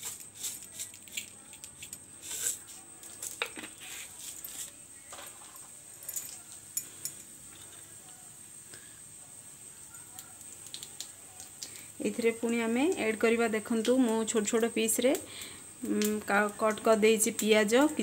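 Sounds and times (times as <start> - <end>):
seeds crackling in hot oil: 0.0 - 18.0.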